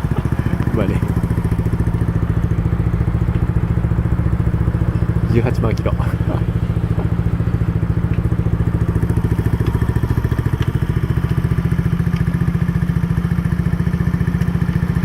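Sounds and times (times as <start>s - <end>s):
faint engine ticks: 0.0s - 15.0s
scooter engine idling: 0.0s - 15.0s.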